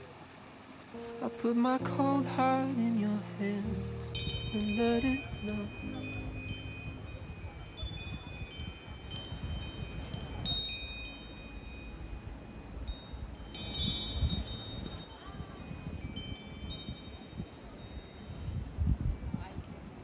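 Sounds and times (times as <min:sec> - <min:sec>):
wind chimes ringing: 0:00.0 - 0:18.8.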